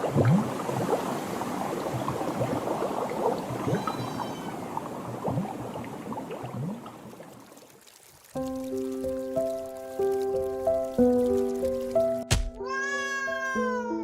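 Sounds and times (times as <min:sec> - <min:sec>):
water bubbling and gurgling: 0:00.0 - 0:12.1.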